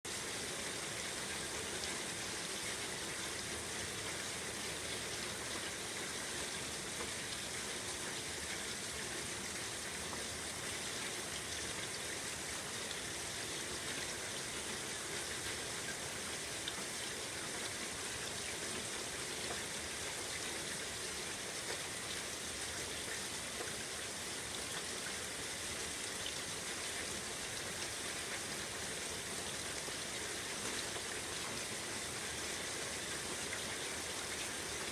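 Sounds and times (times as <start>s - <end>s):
steady rainfall: 0.1s - 34.9s.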